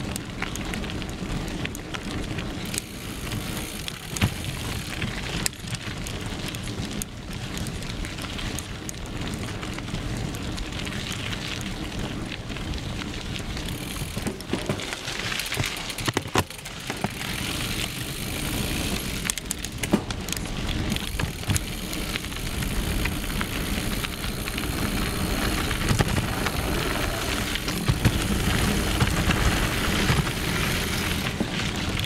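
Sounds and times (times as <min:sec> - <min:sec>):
bike knocking and rattling: 0:00.0 - 0:32.0
bike tyres rumbling on gravel: 0:00.0 - 0:32.0.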